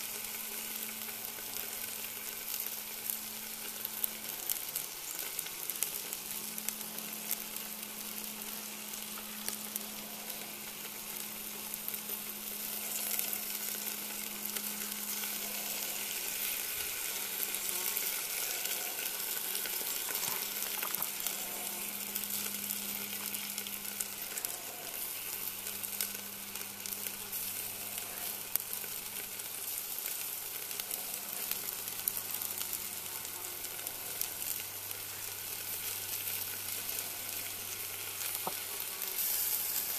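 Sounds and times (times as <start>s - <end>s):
ribs sizzling on a grill: 0.0s - 39.9s.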